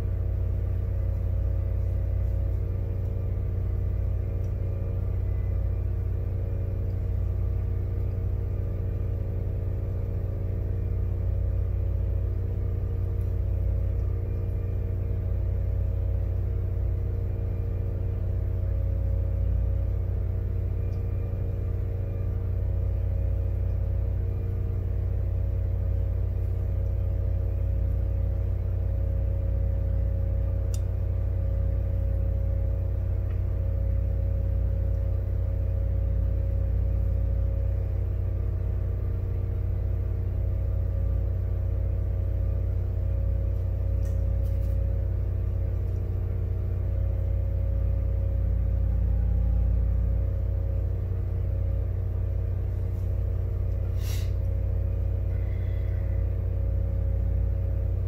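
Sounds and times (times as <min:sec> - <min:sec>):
electric hum: 0:00.0 - 0:58.0.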